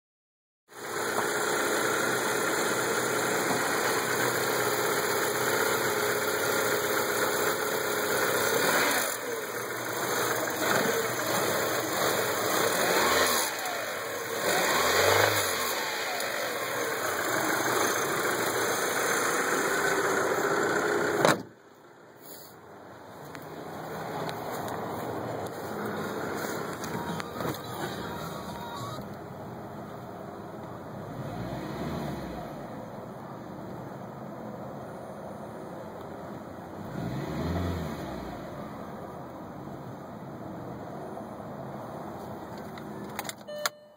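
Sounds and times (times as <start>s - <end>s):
car engine idling and revving: 0.7s - 43.9s.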